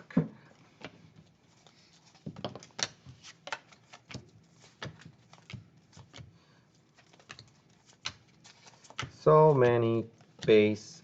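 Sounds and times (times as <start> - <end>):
cards being flipped: 0.8 - 6.3, 6.9 - 10.7.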